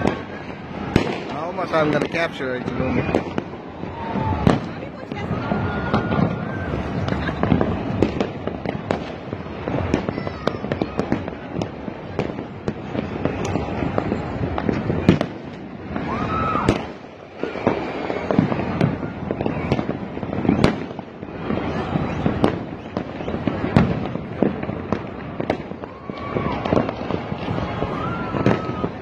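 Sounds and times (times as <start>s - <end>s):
distant fireworks rumble: 0.0s - 29.0s
fireworks bangs and crackles: 0.0s - 29.0s.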